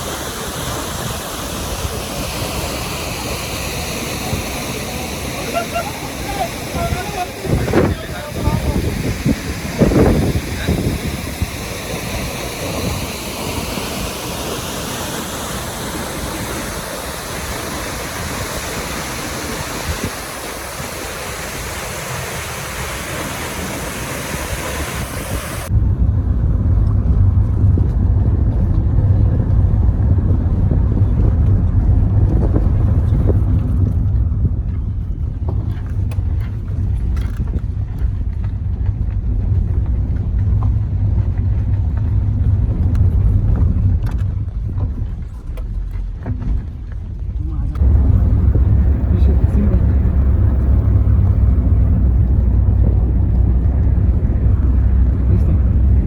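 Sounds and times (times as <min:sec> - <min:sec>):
moving vehicle rumble: 0:00.0 - 0:56.0
steady rushing noise: 0:00.0 - 0:56.0.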